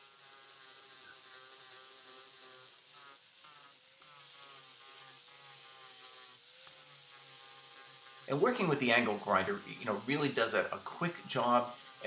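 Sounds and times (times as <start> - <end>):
angle grinder sanding fiberglass: 0.0 - 12.0.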